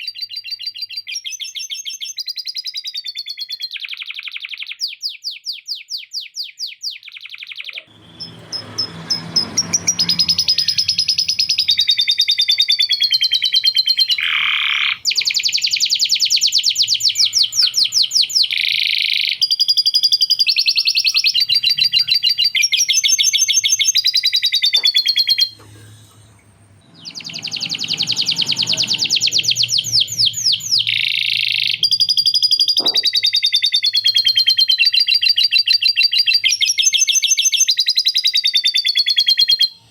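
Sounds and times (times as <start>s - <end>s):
bird chattering: 0.0s - 25.6s, 26.9s - 39.7s
canary singing trills: 0.0s - 39.9s.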